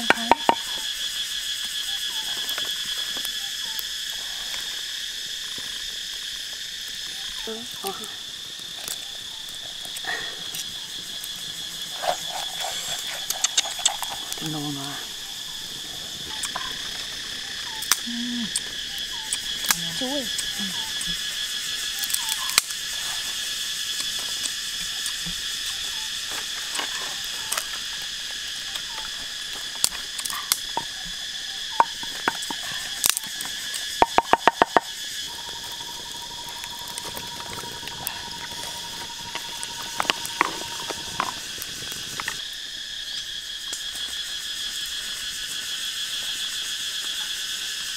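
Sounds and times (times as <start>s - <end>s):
forest insects buzzing: 0.0s - 47.9s.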